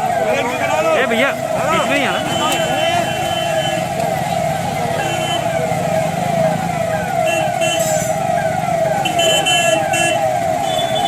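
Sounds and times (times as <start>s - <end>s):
electronic siren falling wail: 0.0s - 11.0s.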